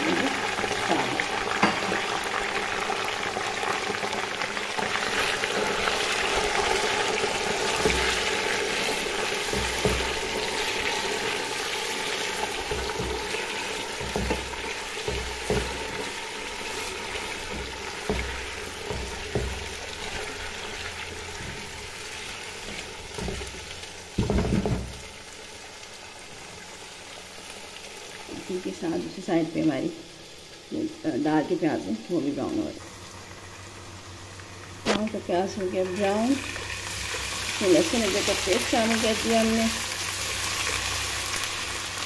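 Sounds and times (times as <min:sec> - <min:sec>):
chicken sizzling in oil: 0:00.0 - 0:42.0.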